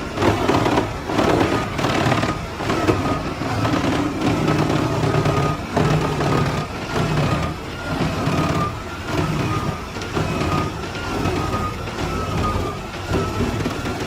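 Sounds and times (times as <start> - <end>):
wood chipper engine droning: 0.0 - 14.0.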